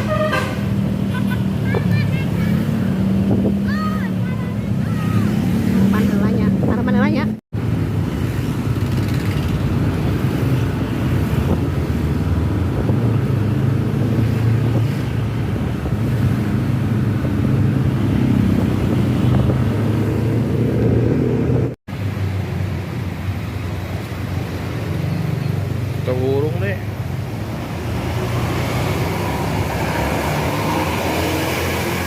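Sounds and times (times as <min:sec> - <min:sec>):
road noise: 0:00.0 - 0:32.0.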